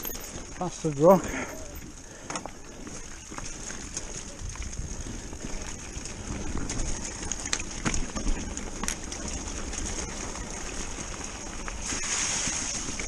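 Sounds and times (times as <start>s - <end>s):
bike knocking and rattling: 0.0s - 13.0s
tyres rumbling on dirt trail: 0.0s - 13.0s.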